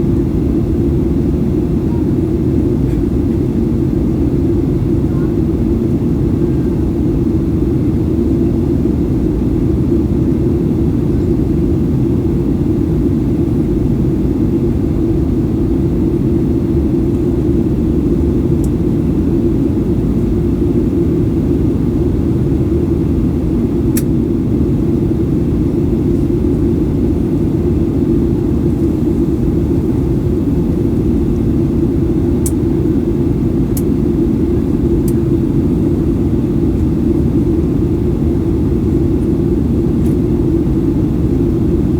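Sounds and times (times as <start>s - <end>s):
aircraft cabin drone: 0.0s - 41.9s.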